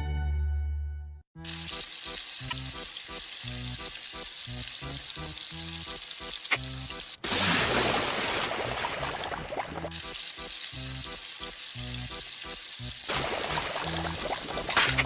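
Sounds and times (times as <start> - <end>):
frying sizzle in cooking pot: 1.4 - 15.0.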